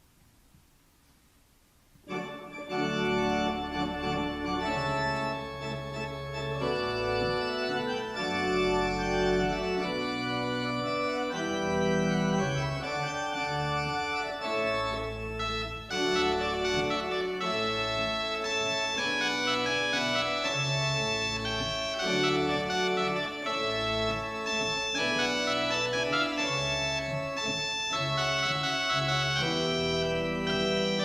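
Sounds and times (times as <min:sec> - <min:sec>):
organ music: 0:02.0 - 0:31.0.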